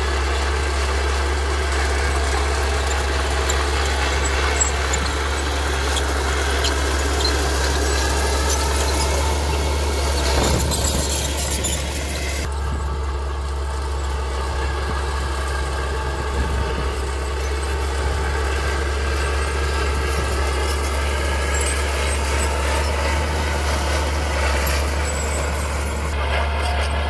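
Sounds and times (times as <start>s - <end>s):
bulldozer engine running: 0.0s - 27.0s.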